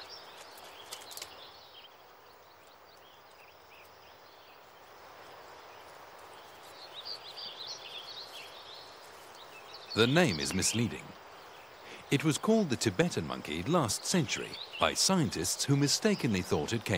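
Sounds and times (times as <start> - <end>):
small birds chirping: 0.0 - 16.9
steady forest hiss: 0.0 - 16.9.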